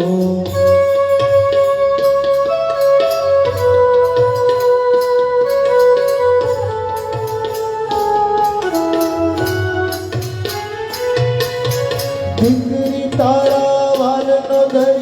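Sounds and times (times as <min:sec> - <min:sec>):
instrumental music with beat and bass: 0:00.0 - 0:15.0.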